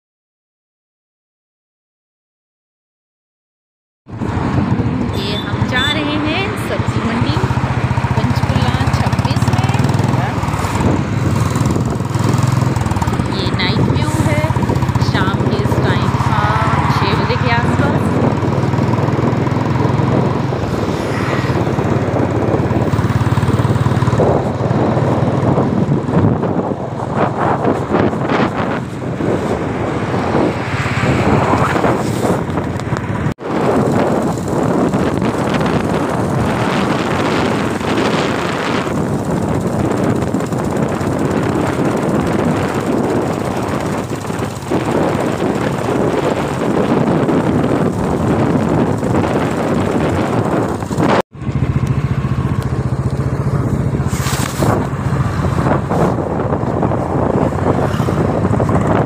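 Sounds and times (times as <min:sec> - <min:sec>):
motorcycle engine droning: 0:04.1 - 0:59.0
wind rushing over microphone: 0:04.1 - 0:59.0.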